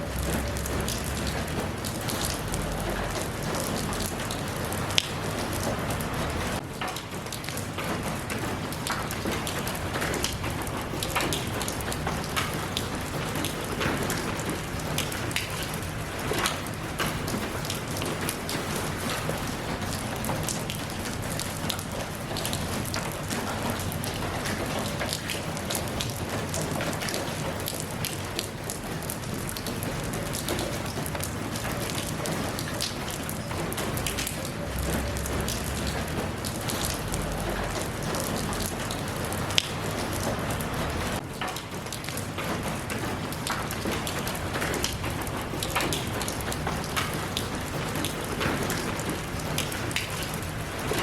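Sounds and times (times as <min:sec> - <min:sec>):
close raindrops tapping: 0:00.0 - 0:51.0
steady rain hiss: 0:00.0 - 0:51.0.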